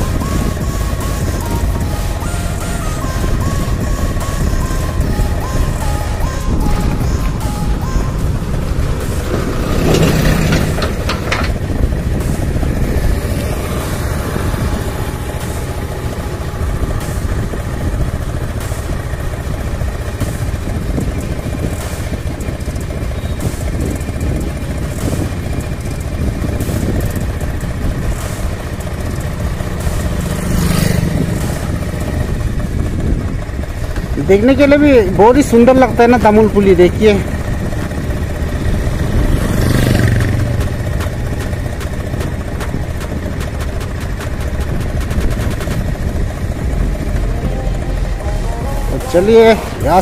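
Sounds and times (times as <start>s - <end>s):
diesel engine passing: 0.0s - 50.0s
motorcycle engine running: 0.0s - 50.0s
passing vehicle noise: 0.0s - 50.0s
wind and road rumble: 0.0s - 50.0s.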